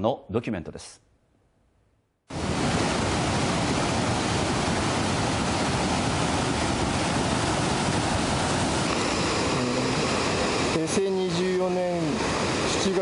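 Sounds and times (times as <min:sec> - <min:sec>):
water rushing: 0:02.3 - 0:13.0.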